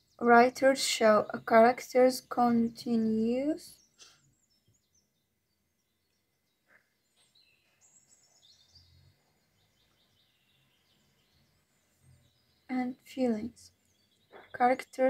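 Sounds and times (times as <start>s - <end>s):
faint high bird chirps: 2.3s - 15.0s.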